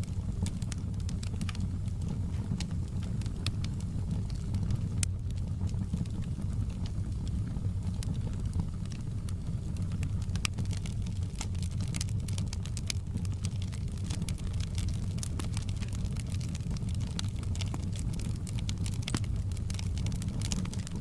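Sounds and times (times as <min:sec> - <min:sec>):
fire crackling and popping: 0:00.0 - 0:21.0
low rumble of flames: 0:00.0 - 0:21.0.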